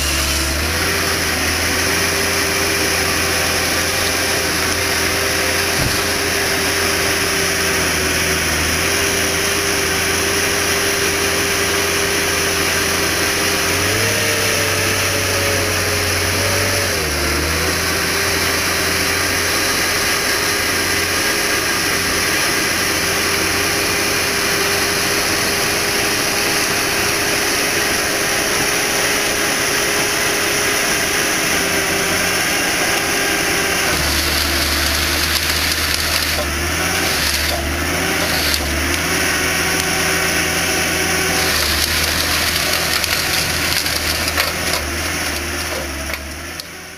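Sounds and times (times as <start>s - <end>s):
diesel engine running under load: 0.0s - 46.9s
steady whining tone: 0.0s - 46.9s.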